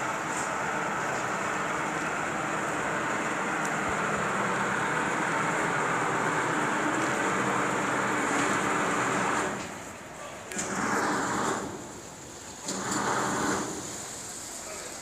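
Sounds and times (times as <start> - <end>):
material hoist winch running: 0.0 - 9.9, 10.5 - 15.0.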